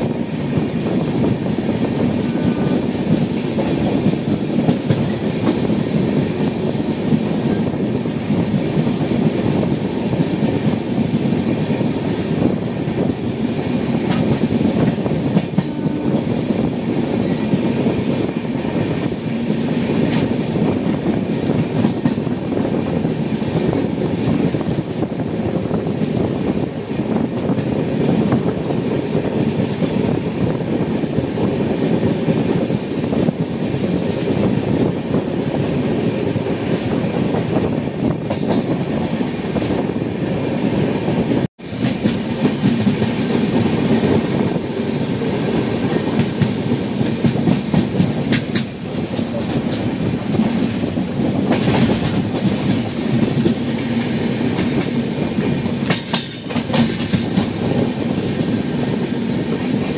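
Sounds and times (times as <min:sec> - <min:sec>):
train rumbling on track: 0:00.0 - 0:59.9
train wheels clicking: 0:00.0 - 0:59.9.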